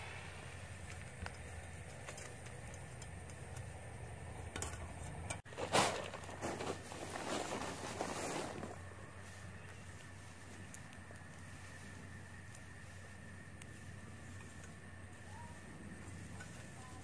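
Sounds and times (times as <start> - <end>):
dry straw rustling: 0.0 - 17.0
steady low hum: 0.0 - 17.0.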